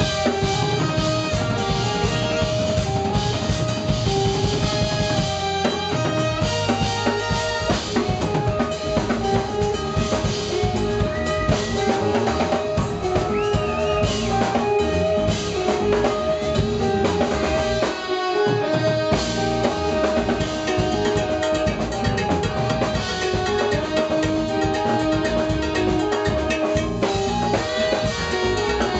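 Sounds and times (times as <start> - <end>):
bass: 0.0 - 18.0, 18.6 - 28.9
drum kit: 0.0 - 28.9
electric guitar: 0.0 - 28.9
keyboards: 0.0 - 28.9
saxophone and trumpets holding notes: 0.0 - 28.9.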